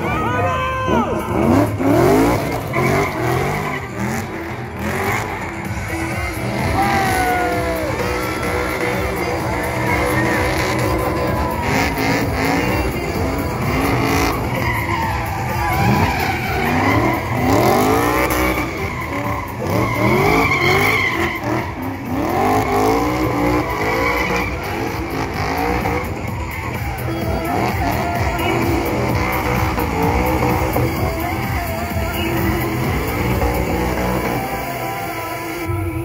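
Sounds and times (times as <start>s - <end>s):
tyres squealing: 0.0s - 35.7s
car engine revving hard: 0.9s - 35.8s.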